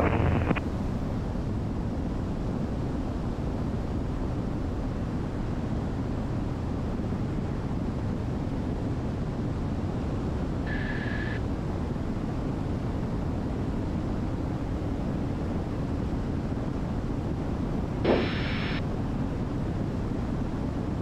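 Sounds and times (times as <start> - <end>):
aircraft engines droning: 0.0 - 21.0.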